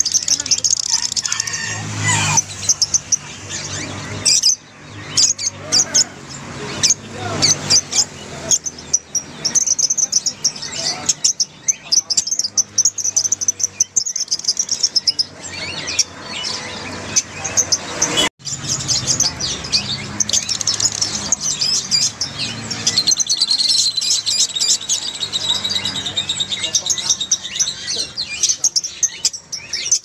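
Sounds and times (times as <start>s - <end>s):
lovebirds chattering: 0.0s - 30.0s.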